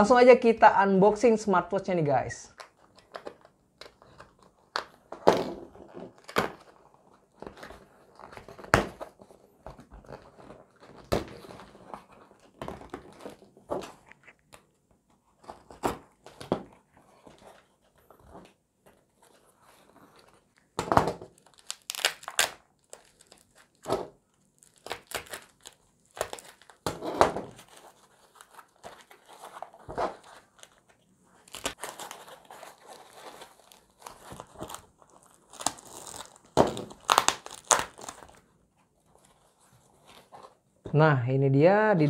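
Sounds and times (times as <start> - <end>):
plastic wrapping crinkling and tearing: 2.5 - 40.6.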